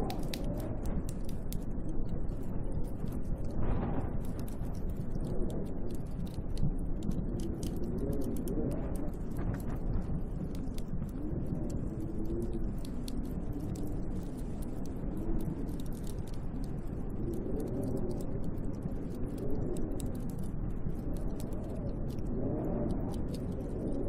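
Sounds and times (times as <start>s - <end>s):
light ticks: 0.0s - 24.0s
wind howling in gusts: 0.0s - 24.0s.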